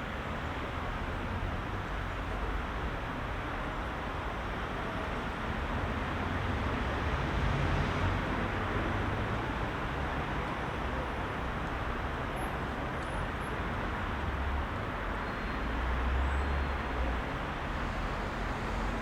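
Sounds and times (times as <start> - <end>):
heavy vehicles rumbling: 0.0 - 19.0
tyres and engines of traffic: 0.0 - 19.0.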